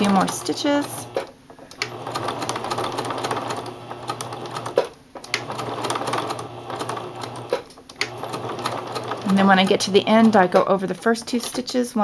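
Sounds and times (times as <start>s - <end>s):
sewing machine sewing: 0.0s - 10.7s.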